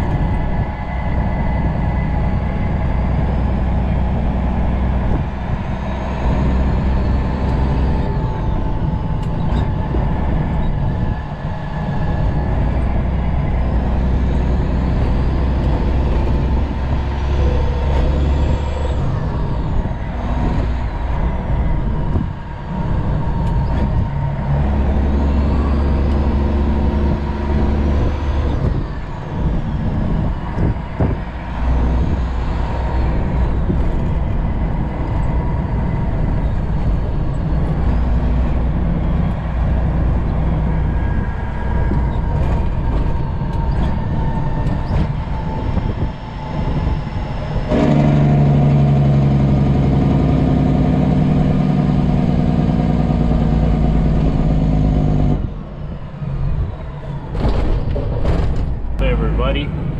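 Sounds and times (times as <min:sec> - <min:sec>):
loud steady drone: 0:00.0 - 0:57.6, 0:58.3 - 0:59.9
truck engine and road noise: 0:00.0 - 0:59.9.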